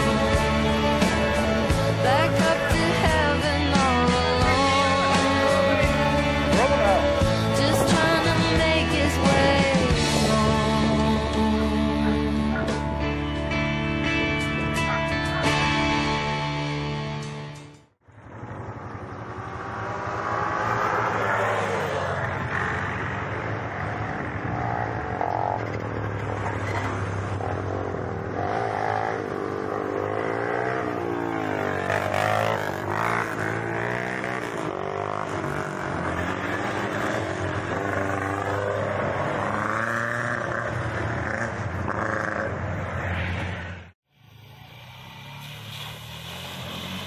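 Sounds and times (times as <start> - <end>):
quad bike engines passing: 0.0 - 14.6, 18.1 - 47.0.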